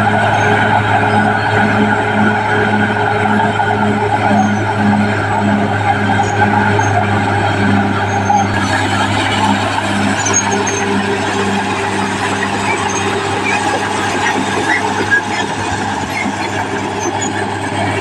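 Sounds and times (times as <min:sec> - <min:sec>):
bulldozer diesel engine running: 0:00.0 - 0:18.0
short high squeaks: 0:03.2 - 0:18.0.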